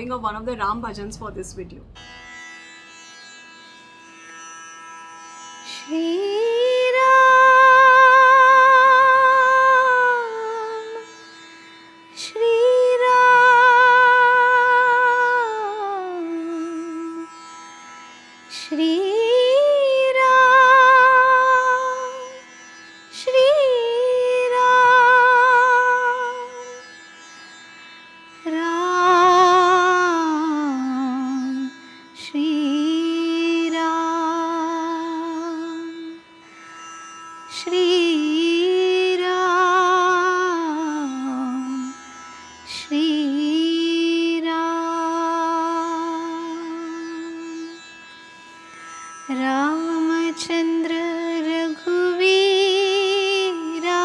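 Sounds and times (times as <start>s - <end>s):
woman singing devotional song: 0.0s - 1.9s, 5.6s - 11.3s, 12.1s - 17.4s, 18.5s - 22.5s, 23.1s - 26.9s, 28.4s - 36.3s, 37.5s - 47.8s, 49.2s - 54.0s.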